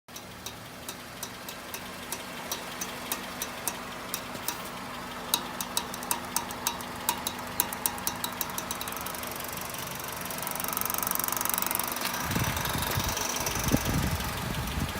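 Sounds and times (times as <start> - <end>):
car engine hum: 0.1 - 14.9
rhythmic clicking from drive axle: 0.1 - 14.9.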